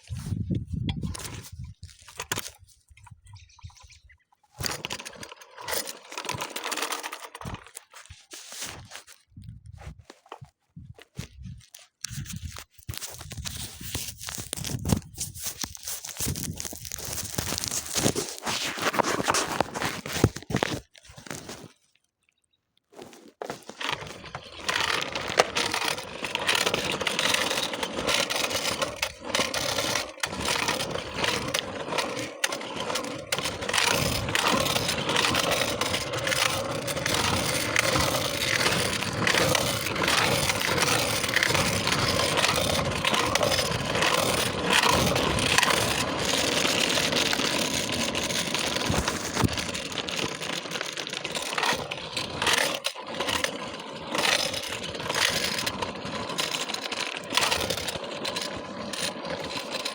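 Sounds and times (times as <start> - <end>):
scooter wheels on rough ground: 0.0 - 22.2, 22.9 - 59.9.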